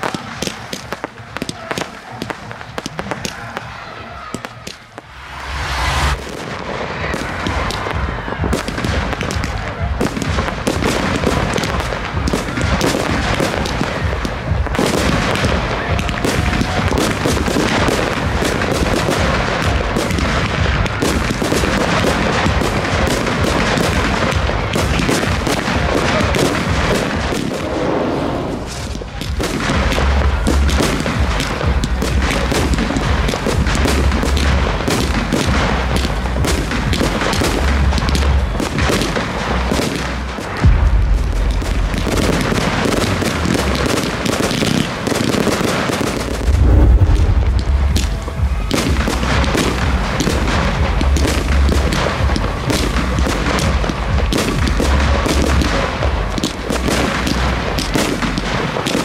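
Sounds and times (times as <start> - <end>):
fireworks booming and cracking: 0.0 - 59.0.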